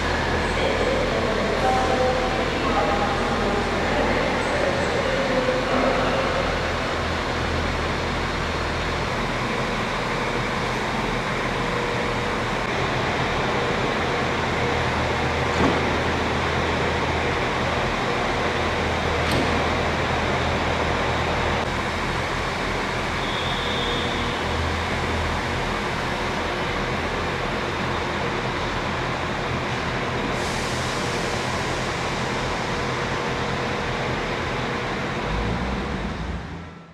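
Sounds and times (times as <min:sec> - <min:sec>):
city road traffic rumble: 0:00.0 - 0:36.9.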